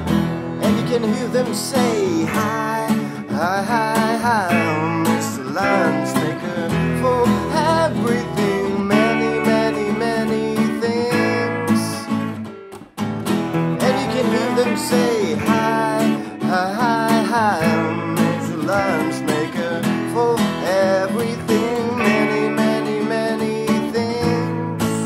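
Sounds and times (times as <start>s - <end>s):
acoustic guitar strumming: 0.0s - 25.0s
electric guitar lead: 0.0s - 25.0s.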